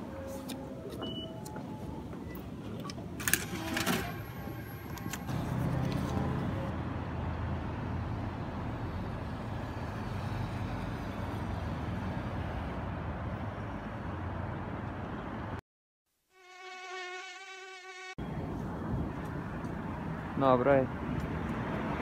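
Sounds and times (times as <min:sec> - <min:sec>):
cars passing by: 0:00.0 - 0:15.6, 0:18.2 - 0:22.0.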